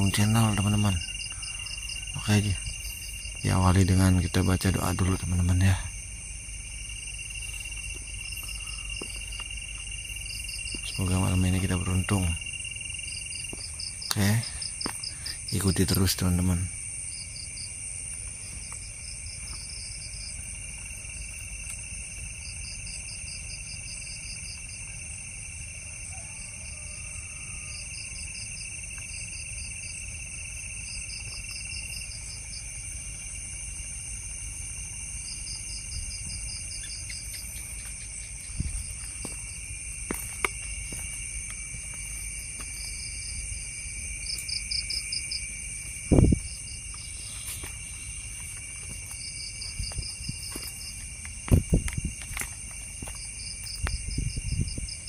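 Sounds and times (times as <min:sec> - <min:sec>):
crickets chirping: 0:00.0 - 0:55.0
insect pulsing trills: 0:00.0 - 0:55.0.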